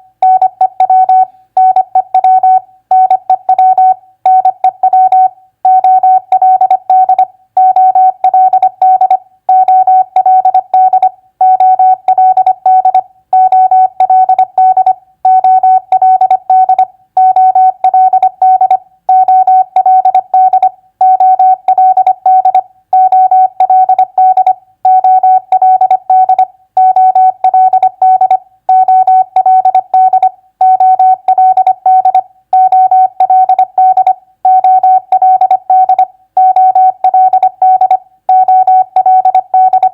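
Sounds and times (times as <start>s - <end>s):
morse code beeps: 0.2s - 39.9s.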